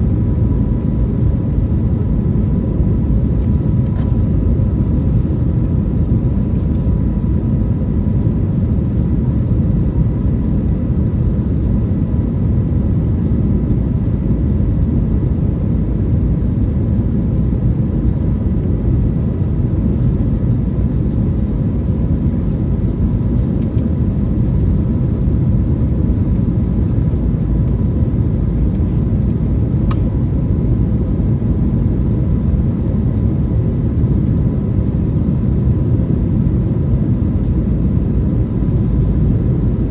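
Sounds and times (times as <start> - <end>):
faint steady whine: 0.0 - 39.9
jet engine cabin roar: 0.0 - 39.9.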